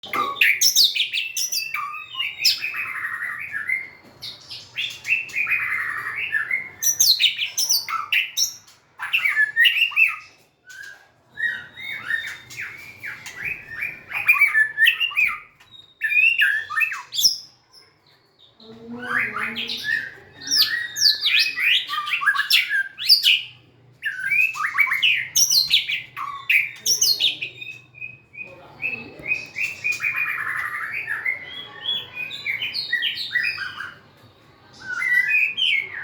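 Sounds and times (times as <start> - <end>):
songbird singing whistles and trills: 0.1 - 17.6, 19.0 - 36.0.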